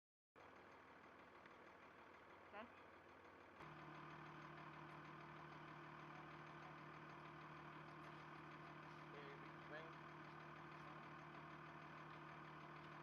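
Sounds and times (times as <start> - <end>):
engine idling hum: 0.4 - 13.0.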